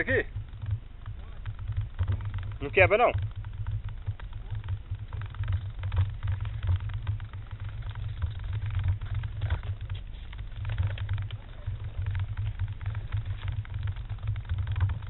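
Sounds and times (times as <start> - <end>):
faint clicks and rustles: 0.0 - 15.0
wind rumbling on microphone: 0.0 - 15.0.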